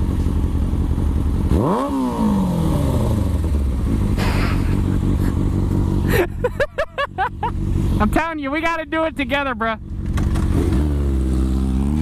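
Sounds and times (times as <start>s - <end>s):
motorcycle engine revving: 0.0s - 12.0s
motorcycle engines idling: 0.0s - 12.0s.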